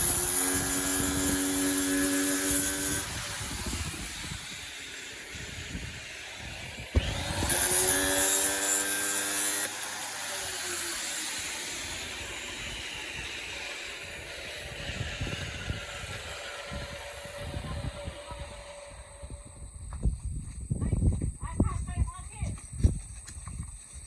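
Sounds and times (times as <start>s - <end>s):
angle grinder on metal: 0.0s - 19.3s.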